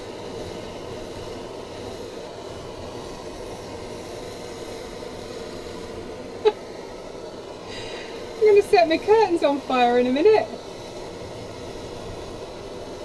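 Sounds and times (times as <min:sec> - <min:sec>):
gas blow torch burning: 0:00.0 - 0:13.0.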